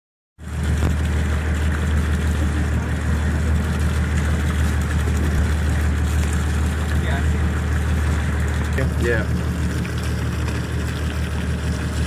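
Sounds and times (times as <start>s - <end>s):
motorboat engine droning: 0.4s - 12.0s.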